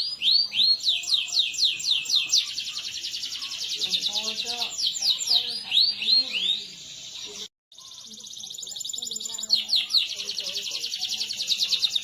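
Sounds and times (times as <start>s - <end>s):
canary singing: 0.0s - 12.0s.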